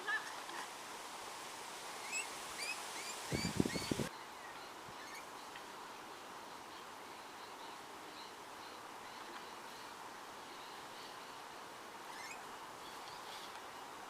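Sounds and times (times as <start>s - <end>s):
outdoor hiss: 0.0s - 14.0s
birds chirping: 2.0s - 14.0s.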